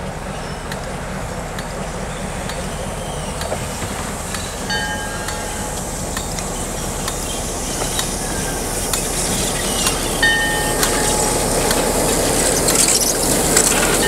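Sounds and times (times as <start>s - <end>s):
diesel locomotive engine: 0.0s - 14.0s
wheels clicking over rail joints: 0.0s - 14.0s
wheel squeals: 1.8s - 14.0s.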